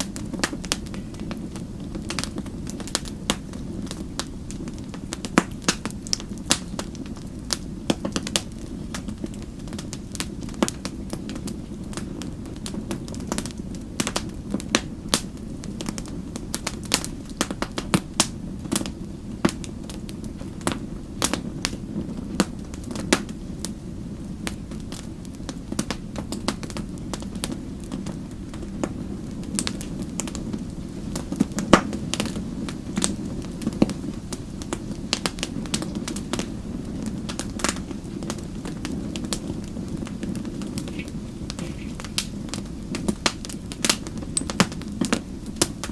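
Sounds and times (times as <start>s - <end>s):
low rush of flames: 0.0s - 45.9s
wood fire crackling: 0.0s - 45.9s.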